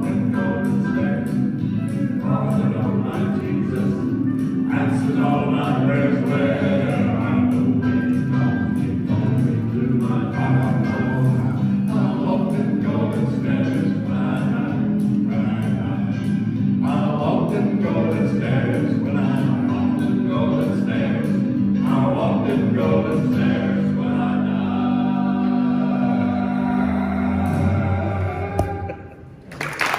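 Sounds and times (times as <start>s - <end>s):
male quartet singing in harmony: 0.0s - 29.1s.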